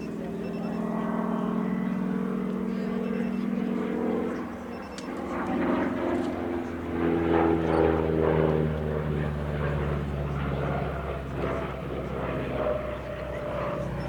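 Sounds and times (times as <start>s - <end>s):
propeller: 0.0s - 14.0s
radial aircraft engine in flight: 0.0s - 14.0s.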